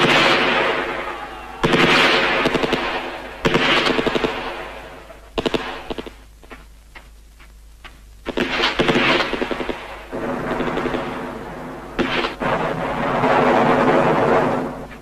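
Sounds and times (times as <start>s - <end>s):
scattered gunshots: 0.0s - 6.2s, 8.3s - 14.9s
machine-gun fire with echo: 0.0s - 6.5s, 8.2s - 15.0s.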